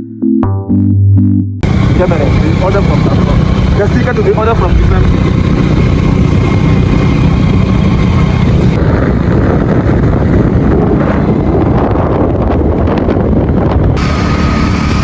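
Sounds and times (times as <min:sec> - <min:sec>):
motorbike engine and road rumble: 0:01.6 - 0:15.0
wind buffeting microphone: 0:01.6 - 0:15.0.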